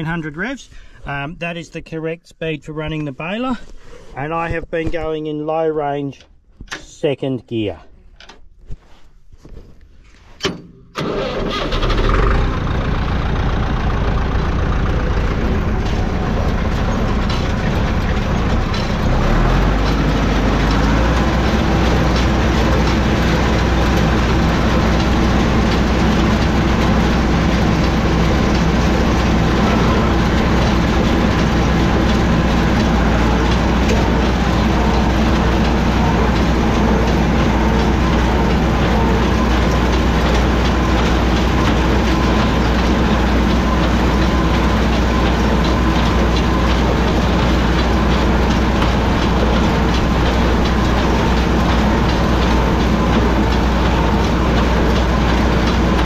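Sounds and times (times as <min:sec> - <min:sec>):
hay baler mechanical clatter: 0:10.4 - 0:56.0
tractor diesel engine running: 0:10.9 - 0:56.0.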